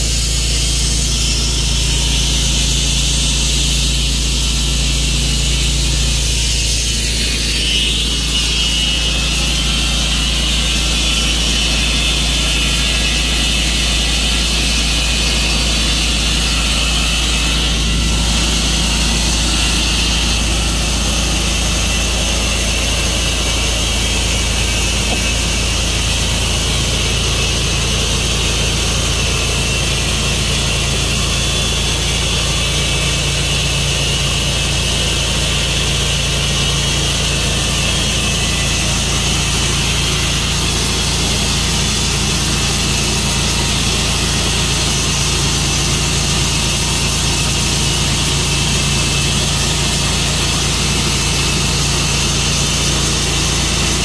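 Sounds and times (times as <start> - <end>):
sawmill blade sawing log: 0.0 - 54.0.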